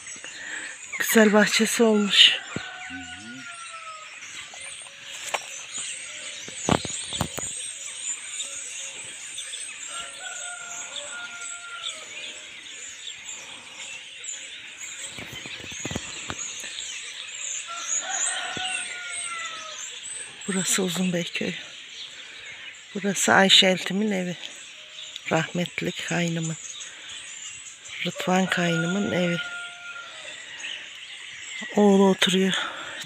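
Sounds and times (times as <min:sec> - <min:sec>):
long falling bird call: 0:00.0 - 0:33.0
starlings chattering and twittering: 0:00.0 - 0:33.0.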